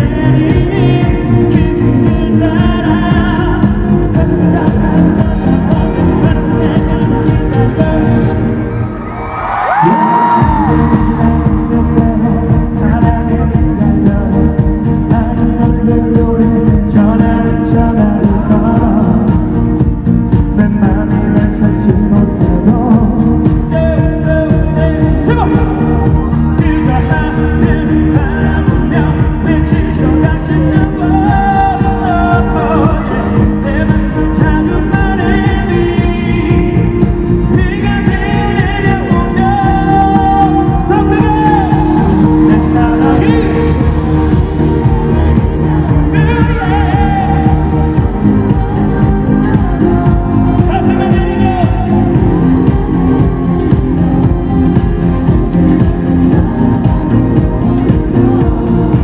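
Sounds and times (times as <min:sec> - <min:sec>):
man singing into microphone: 0:00.0 - 0:08.9, 0:09.5 - 0:59.0
amplified backing music: 0:00.0 - 0:59.0.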